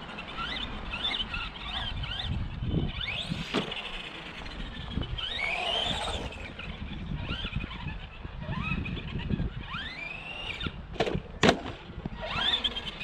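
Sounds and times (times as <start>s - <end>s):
electric motor whining: 0.0s - 10.9s, 11.8s - 13.0s.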